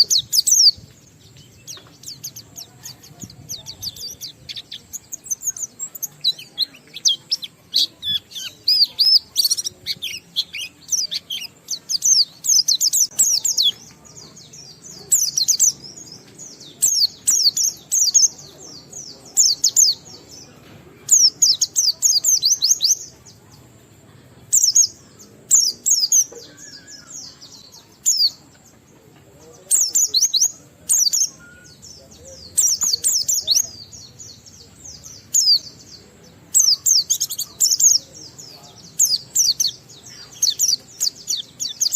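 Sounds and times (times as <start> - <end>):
bird twittering song: 0.0 - 41.9.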